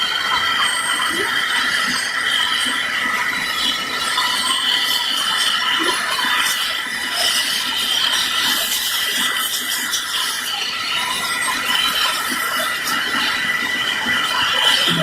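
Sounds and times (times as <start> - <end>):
helicopter turbine engines whining: 0.0 - 15.0.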